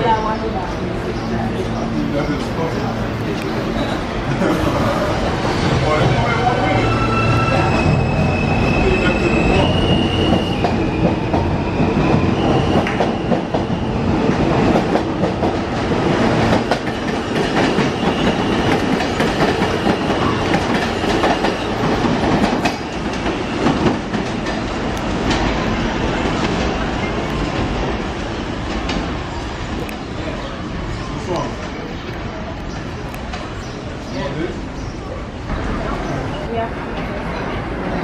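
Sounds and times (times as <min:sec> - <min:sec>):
train cars rumbling: 0:00.0 - 0:38.0.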